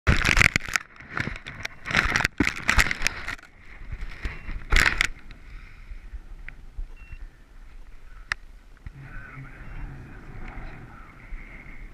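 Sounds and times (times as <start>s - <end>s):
strong wind gusting on microphone: 1.1s - 11.9s.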